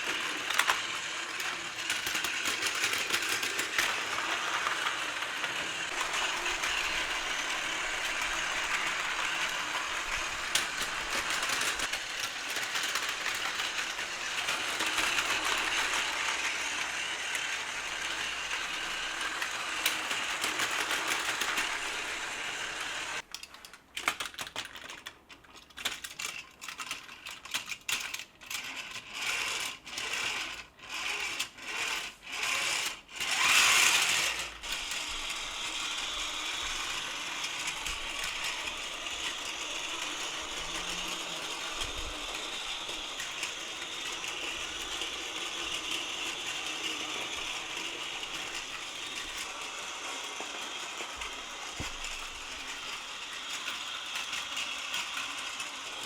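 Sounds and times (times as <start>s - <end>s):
toy trains whirring and clattering: 0.0s - 56.0s.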